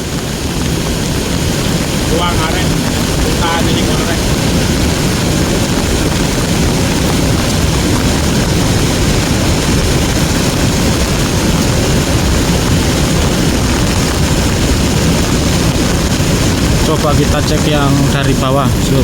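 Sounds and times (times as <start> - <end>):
mudflow roaring down river: 0.0 - 19.0
wind buffeting microphone: 0.0 - 19.0.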